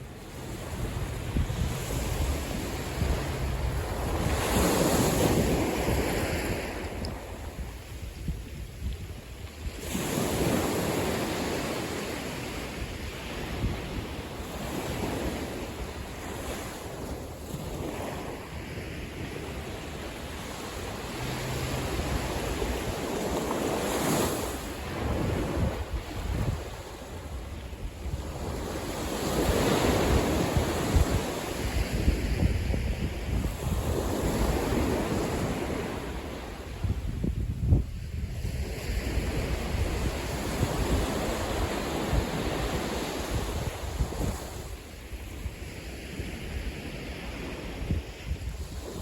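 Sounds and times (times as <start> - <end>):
sea waves on sandy beach: 0.0 - 49.0
wind buffeting microphone: 0.0 - 49.0.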